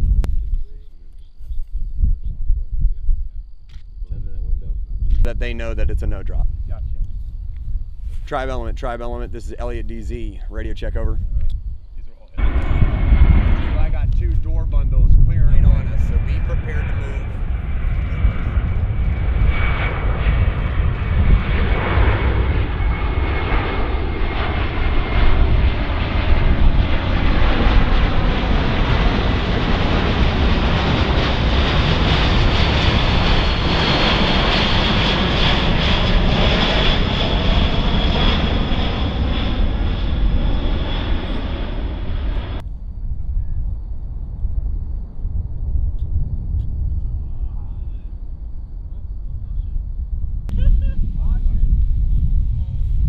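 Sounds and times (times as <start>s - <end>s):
high turbine whine: 0.0s - 53.0s
jet roaring overhead: 0.0s - 53.0s
low rumble: 0.0s - 53.0s.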